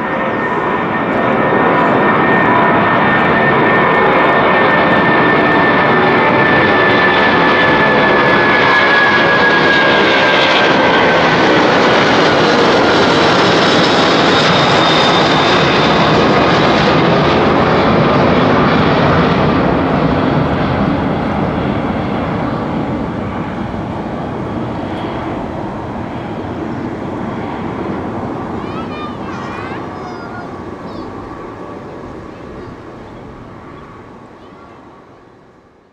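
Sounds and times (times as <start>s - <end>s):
jet engine whine: 0.0s - 35.9s
jet engines roaring: 0.0s - 35.9s.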